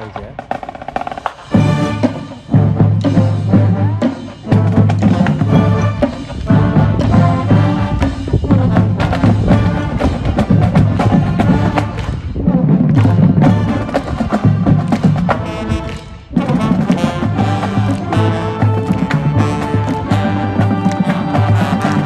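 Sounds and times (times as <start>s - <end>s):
marching band playing brass and drums: 0.0s - 22.0s.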